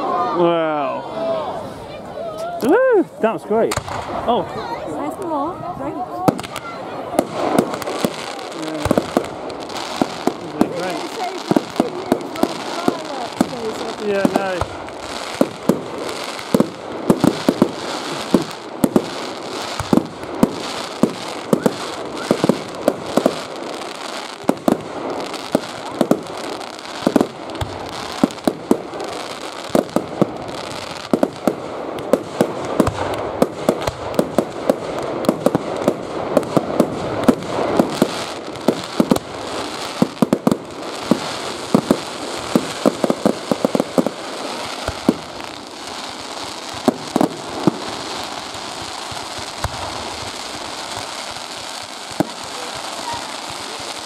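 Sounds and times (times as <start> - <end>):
continuous noisy haze: 0.0 - 54.0
fireworks bangs: 2.3 - 54.0.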